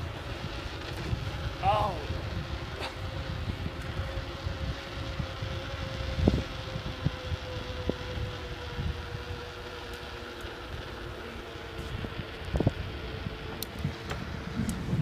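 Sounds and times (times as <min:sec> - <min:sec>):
bicycle rattling on dirt trail: 0:00.0 - 0:15.0
wind buffeting the microphone: 0:00.0 - 0:15.0.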